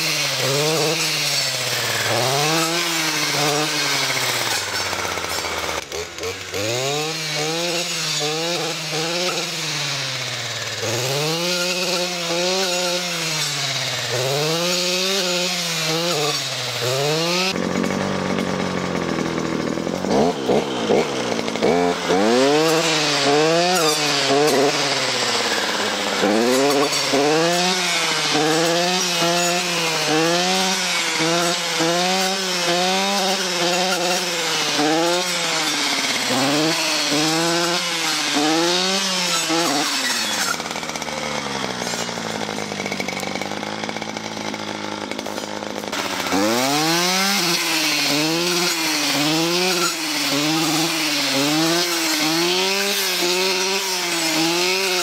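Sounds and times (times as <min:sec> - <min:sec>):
brushcutter engine surging: 0:00.0 - 0:55.0.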